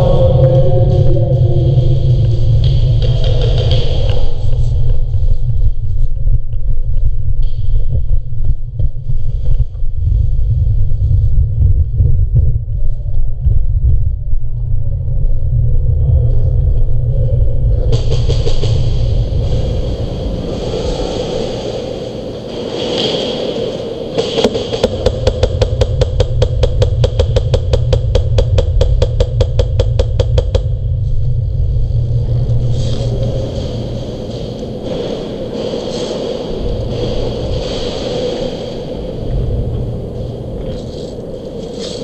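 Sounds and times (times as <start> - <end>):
wind buffeting camera: 0.0 - 26.9, 30.4 - 42.0
low rumble: 0.0 - 42.0.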